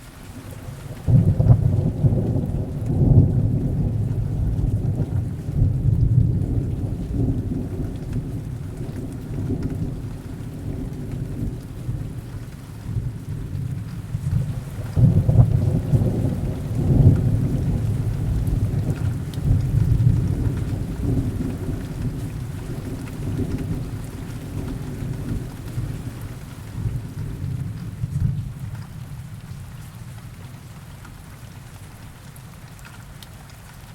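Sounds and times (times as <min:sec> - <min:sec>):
heavy rain: 0:00.0 - 0:33.9
rolling thunder rumble: 0:00.4 - 0:30.4.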